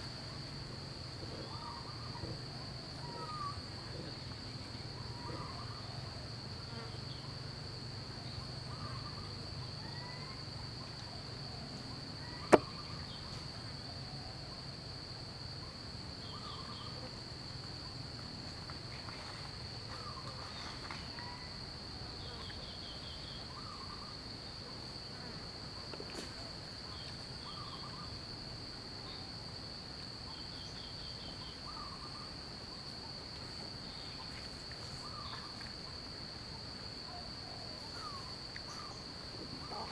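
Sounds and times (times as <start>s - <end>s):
insect chirps and trills: 0.0s - 39.9s
insects droning: 0.0s - 39.9s.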